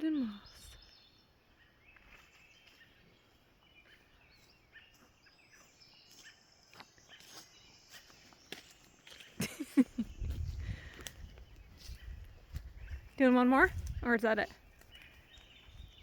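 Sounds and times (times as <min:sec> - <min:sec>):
distant bird chirps: 0:00.0 - 0:16.0.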